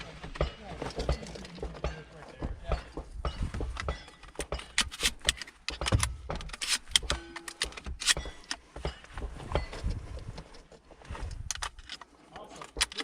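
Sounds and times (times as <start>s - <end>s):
clicks knocks and rattles: 0.3s - 13.0s.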